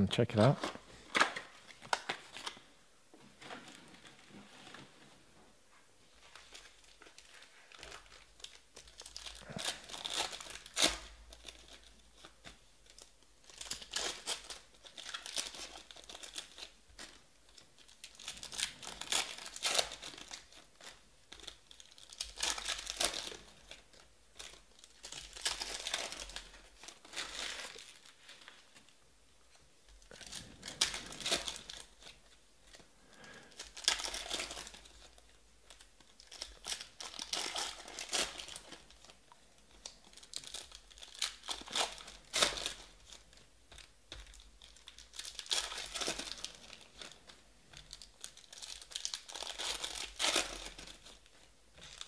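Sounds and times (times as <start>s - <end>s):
foil wrappers crinkling and tearing: 6.2s - 29.0s, 29.9s - 52.0s.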